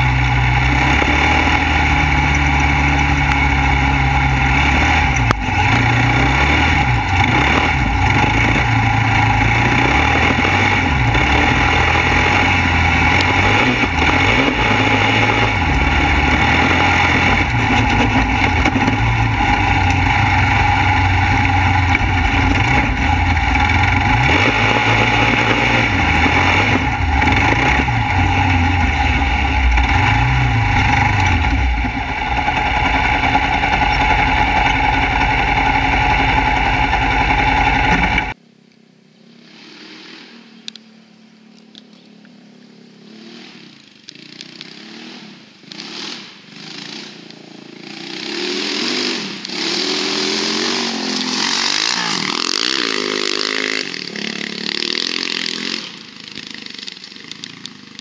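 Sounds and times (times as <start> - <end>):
buggy engine revving: 0.0 - 38.4, 39.3 - 41.1, 42.1 - 58.0.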